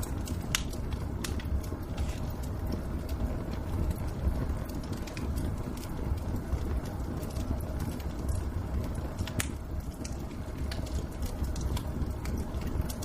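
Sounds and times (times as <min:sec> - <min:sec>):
low rumble: 0:00.0 - 0:13.0
wood fire crackling and popping: 0:00.0 - 0:13.0.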